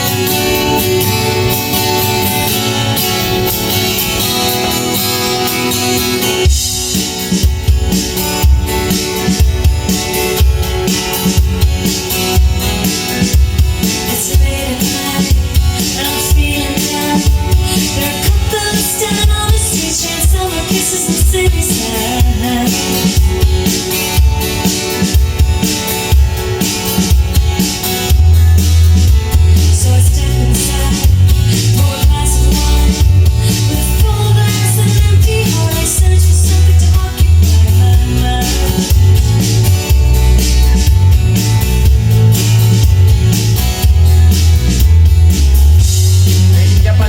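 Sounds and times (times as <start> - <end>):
loud recorded music with heavy bass: 0.0 - 47.0
song with steady kick-drum beat: 0.0 - 47.0.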